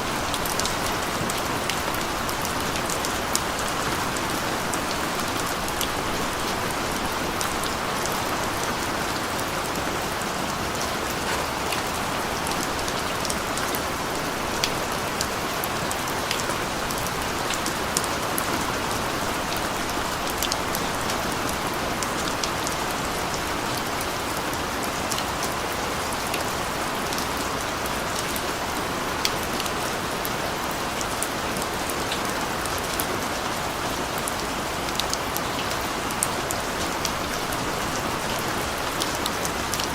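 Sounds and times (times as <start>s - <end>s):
rain hissing on street: 0.0s - 39.9s
raindrops ticking on hard surfaces: 0.0s - 39.9s.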